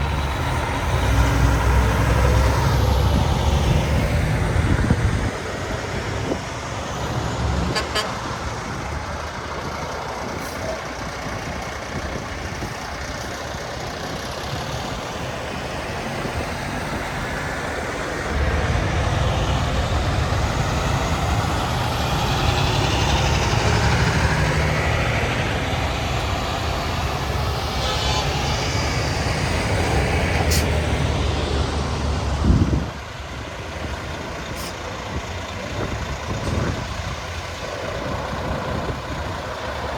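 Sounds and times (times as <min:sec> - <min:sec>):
trucks driving past: 0:00.0 - 0:39.9.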